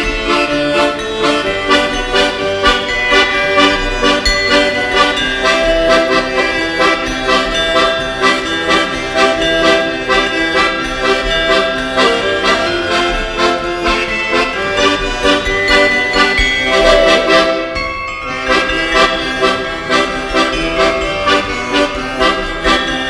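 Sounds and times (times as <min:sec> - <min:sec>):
accordion folk music: 0:00.0 - 0:23.0.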